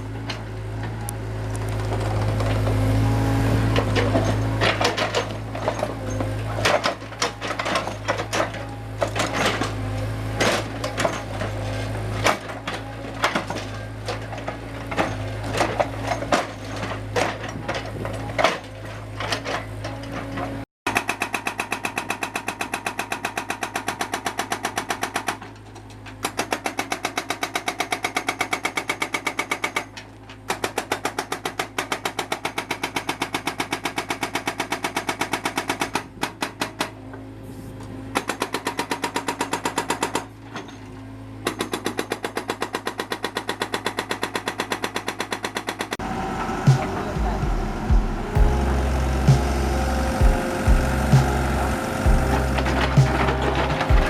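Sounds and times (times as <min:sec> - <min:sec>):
excavator engine hum: 0:00.0 - 0:54.0.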